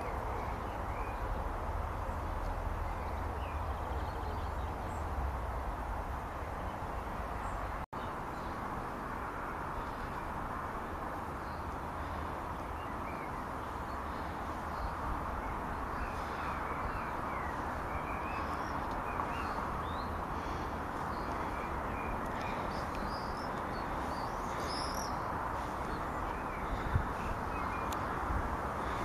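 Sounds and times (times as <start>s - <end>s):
small birds chirping: 0.0s - 5.3s, 6.4s - 29.0s
outdoor background hiss: 0.0s - 29.0s
wind rumble on microphone: 0.0s - 29.0s.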